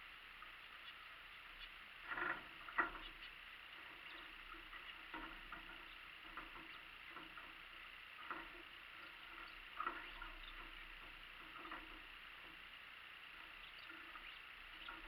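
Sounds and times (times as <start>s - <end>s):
faint pattering: 0.4s - 15.0s.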